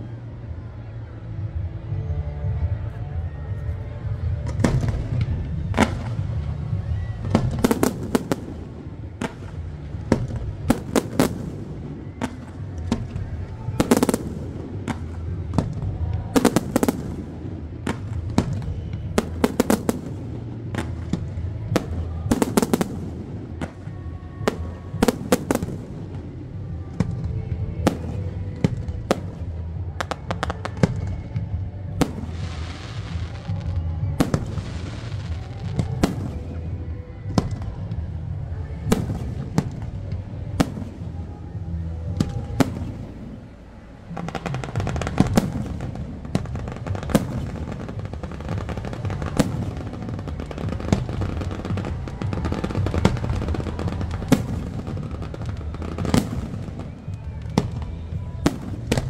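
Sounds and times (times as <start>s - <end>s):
fireworks crackling: 4.1s - 59.0s
fireworks bangs: 4.4s - 59.0s.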